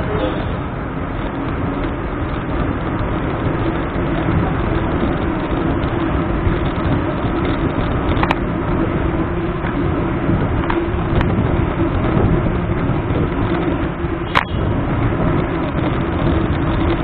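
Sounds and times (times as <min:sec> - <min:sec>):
road noise: 0:00.0 - 0:17.0
wind rumble: 0:00.0 - 0:17.0.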